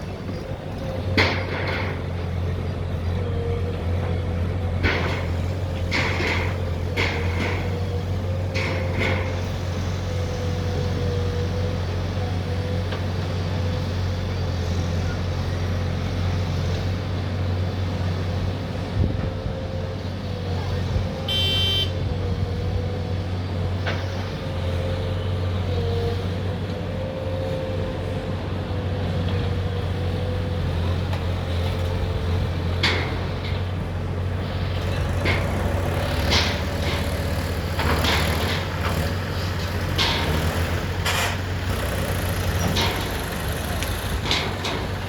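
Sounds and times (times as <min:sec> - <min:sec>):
diesel engine running: 0:00.0 - 0:45.0
engine whine: 0:00.0 - 0:45.0.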